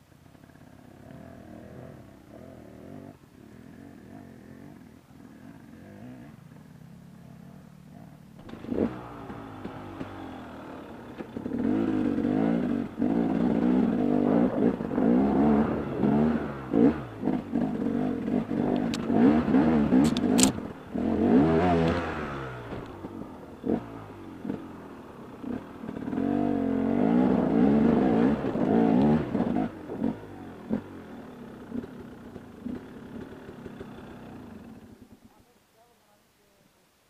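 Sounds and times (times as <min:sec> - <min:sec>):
dirt bike engine revving: 0:00.5 - 0:35.1.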